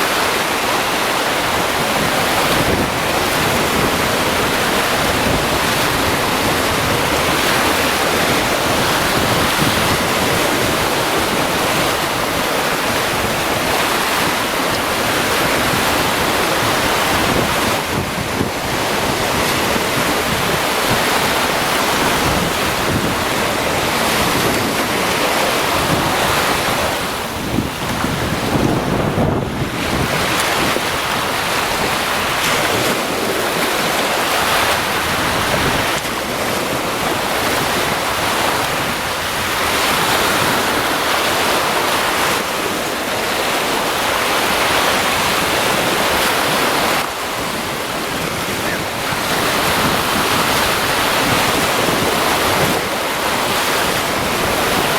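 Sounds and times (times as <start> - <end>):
surf washing onto beach: 0.0 - 54.9
wind buffeting microphone: 0.0 - 54.9.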